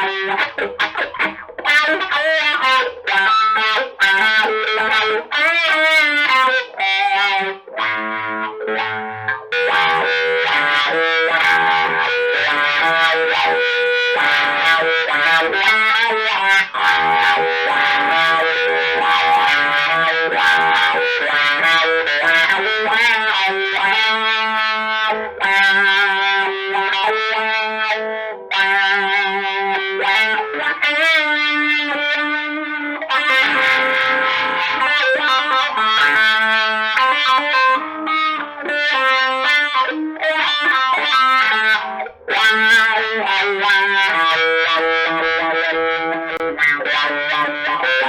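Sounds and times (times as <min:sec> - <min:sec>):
electric guitar with vibrato effect: 0:00.0 - 0:48.0.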